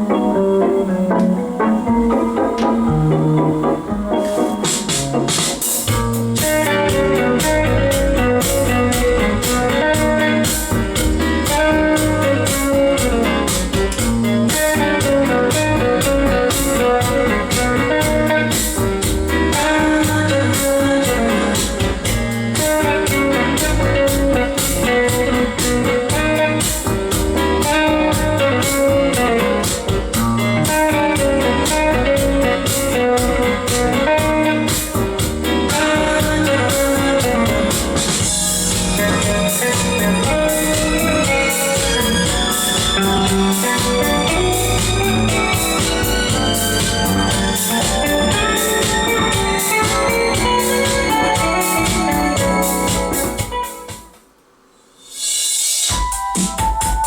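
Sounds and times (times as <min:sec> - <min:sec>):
guitar music through speakers: 0:00.0 - 0:54.2, 0:55.9 - 0:57.0.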